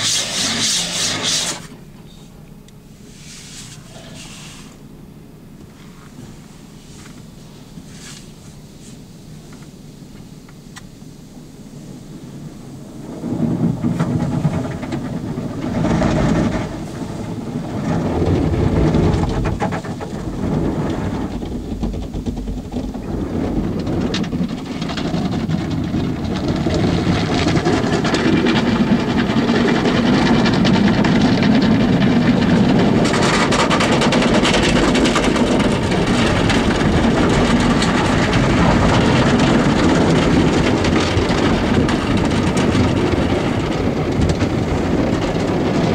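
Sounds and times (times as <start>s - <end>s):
car wash brushes and water jets: 0.0s - 4.9s, 5.6s - 45.9s.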